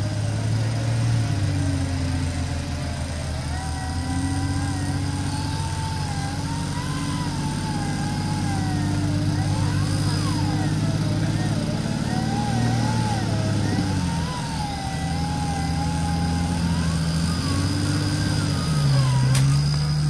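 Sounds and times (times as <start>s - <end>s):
electric winch whining: 0.0s - 20.0s
vehicle engine running: 0.0s - 20.0s.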